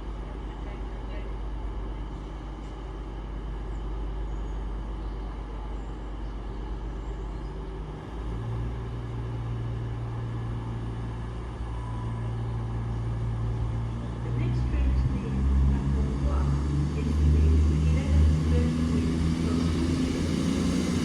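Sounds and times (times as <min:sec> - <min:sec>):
train mechanical hum: 0:00.0 - 0:21.0.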